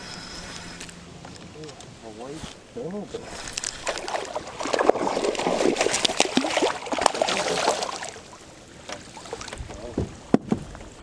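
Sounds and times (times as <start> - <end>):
water splashing and sloshing: 0.3 - 11.0.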